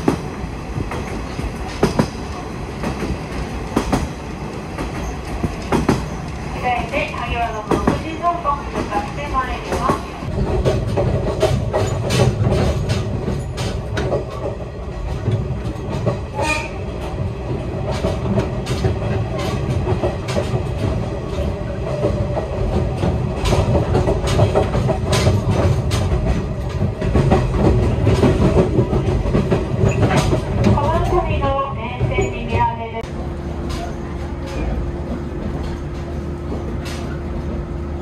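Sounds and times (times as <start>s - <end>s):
wheels clicking over rail joints: 0.0s - 32.7s, 33.6s - 37.8s
train rumbling: 0.0s - 38.0s.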